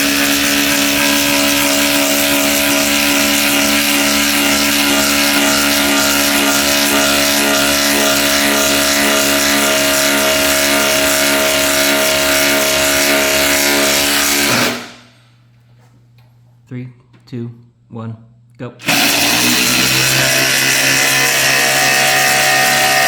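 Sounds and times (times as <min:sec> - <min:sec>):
impact driver hammering: 0:00.0 - 0:15.1, 0:18.8 - 0:23.0.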